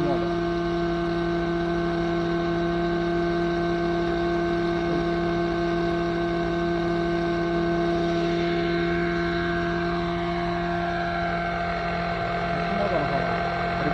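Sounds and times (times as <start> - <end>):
model helicopter engine hum: 0.0 - 13.9.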